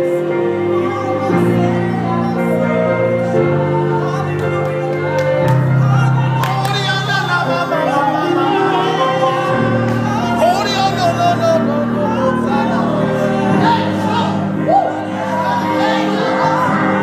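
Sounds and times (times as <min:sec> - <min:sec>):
sustained worship music chords: 0:00.0 - 0:17.0
voices singing: 0:00.0 - 0:17.0.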